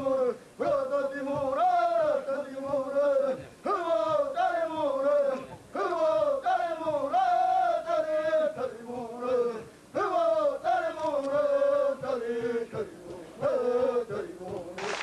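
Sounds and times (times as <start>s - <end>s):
men chanting in unison: 0.0s - 14.8s.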